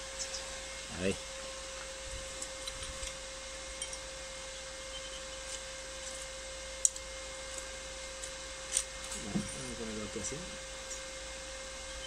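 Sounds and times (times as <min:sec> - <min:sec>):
welding machine high-pitched hum: 0:00.0 - 0:12.0.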